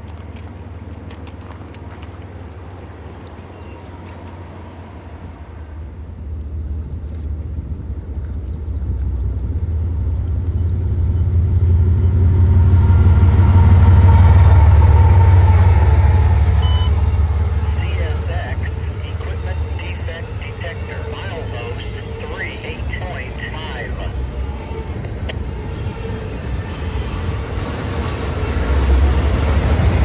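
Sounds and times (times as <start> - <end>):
locomotive engines rumbling: 0.0 - 30.0.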